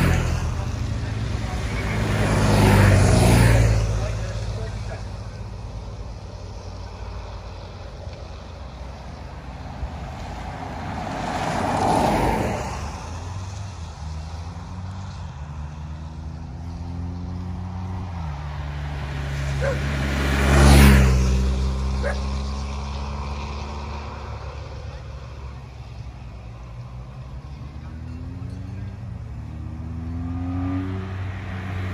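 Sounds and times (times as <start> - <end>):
motorcycle engine passing: 0.0 - 9.4, 10.1 - 31.9
car driving past: 0.0 - 31.9.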